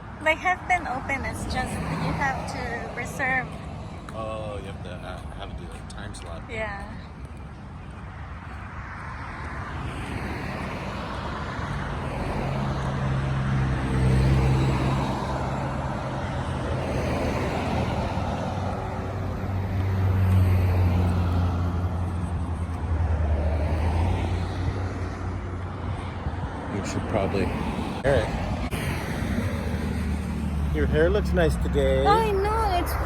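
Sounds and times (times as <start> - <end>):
motor vehicles driving past: 0.0 - 33.0.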